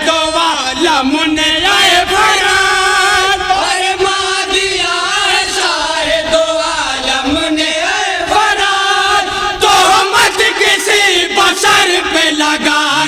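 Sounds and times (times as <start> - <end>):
men singing in unison: 0.0 - 13.0.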